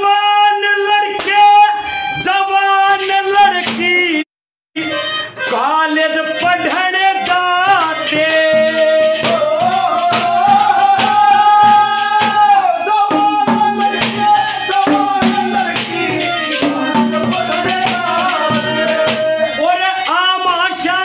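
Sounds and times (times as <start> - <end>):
harmonium melody: 0.0 - 4.2, 4.8 - 21.0
percussion beats: 2.2 - 4.2, 4.8 - 21.0.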